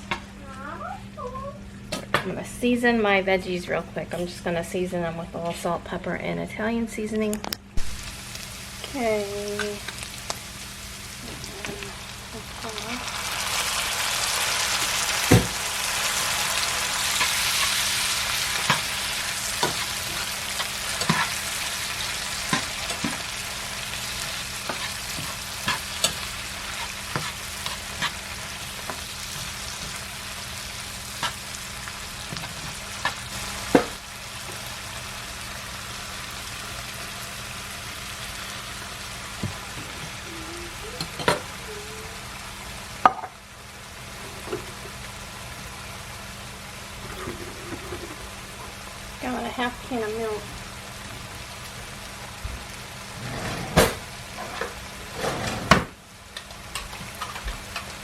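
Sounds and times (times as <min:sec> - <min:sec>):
vegetables sizzling in a pan: 0:07.8 - 0:58.0.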